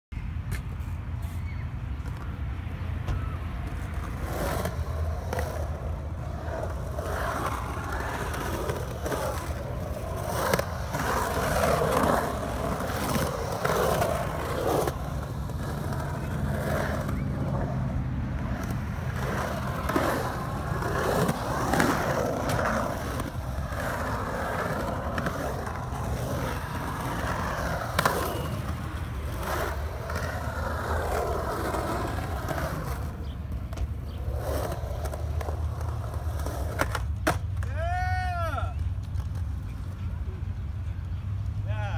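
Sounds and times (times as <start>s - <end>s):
skateboard wheels rolling on concrete: 0.2s - 41.9s.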